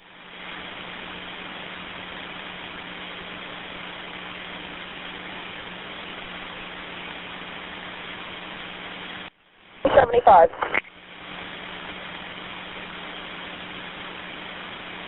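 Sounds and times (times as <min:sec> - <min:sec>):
radio hiss: 0:00.1 - 0:15.0.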